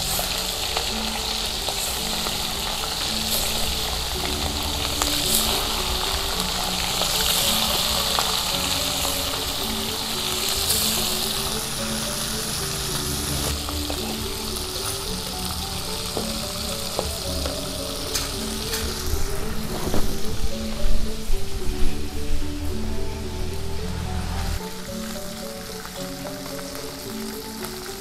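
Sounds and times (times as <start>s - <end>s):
fish sizzling in hot oil: 0.0s - 21.2s, 24.6s - 28.0s
soft background music: 0.0s - 28.0s.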